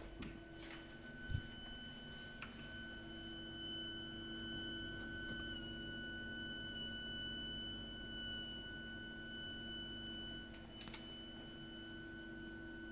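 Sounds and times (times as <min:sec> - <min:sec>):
shrill high-pitched whistle: 0:00.8 - 0:12.9.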